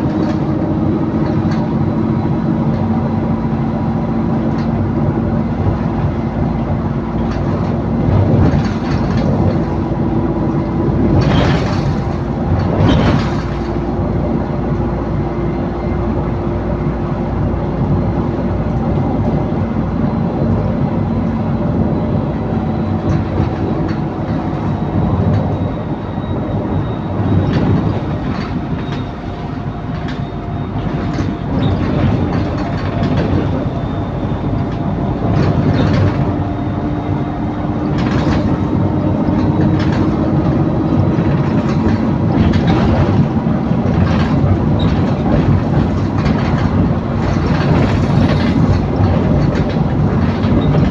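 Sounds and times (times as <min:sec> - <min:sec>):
rattles and knocks from bus body: 0:00.0 - 0:16.0, 0:18.8 - 0:50.9
bus drivetrain whining: 0:00.0 - 0:50.9.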